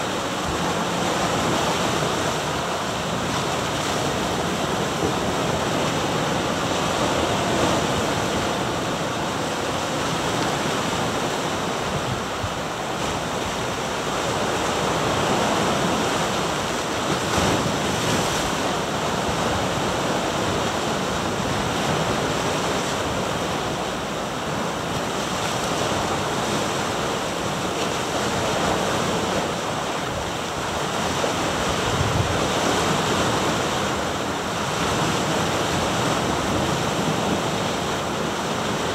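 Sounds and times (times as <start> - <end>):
waves breaking on rocks: 0.0 - 38.9.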